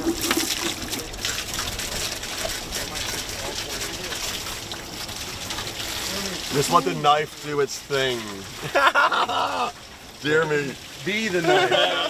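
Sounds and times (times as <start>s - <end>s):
water running from a hose: 0.0s - 12.0s.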